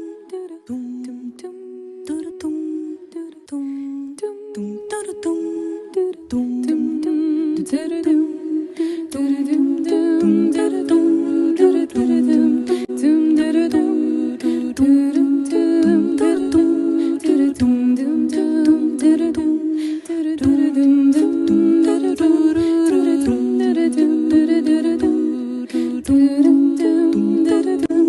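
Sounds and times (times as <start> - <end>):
wordless humming vocals: 0.0 - 28.0.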